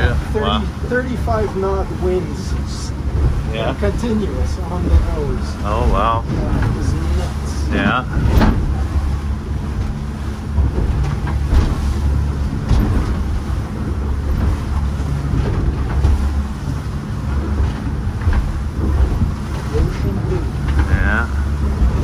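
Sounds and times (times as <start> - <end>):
low motor drone: 0.0 - 22.0
water splashing against hulls: 0.0 - 22.0
wind buffeting microphone: 0.0 - 22.0.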